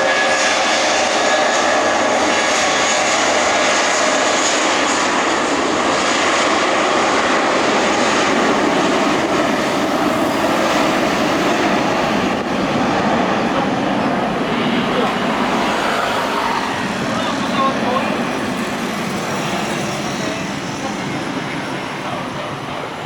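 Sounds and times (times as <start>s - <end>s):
jet engines roaring: 0.0s - 23.0s
faint engine whine: 0.1s - 23.0s.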